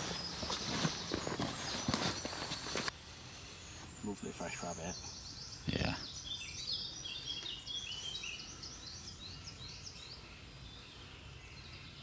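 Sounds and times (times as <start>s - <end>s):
outdoor background: 0.0s - 12.0s
songbird singing: 0.0s - 12.0s.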